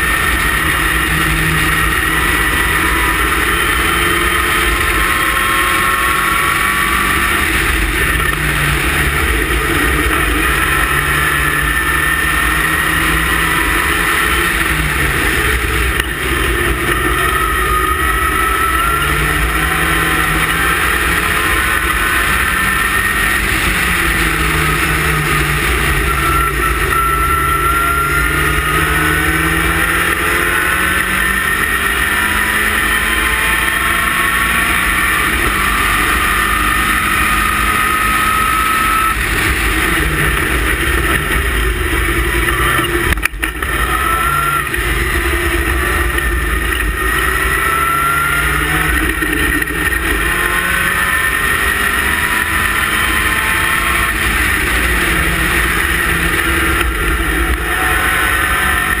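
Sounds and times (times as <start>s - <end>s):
race car engine revving: 0.0s - 59.0s
rush of noise: 0.0s - 59.0s.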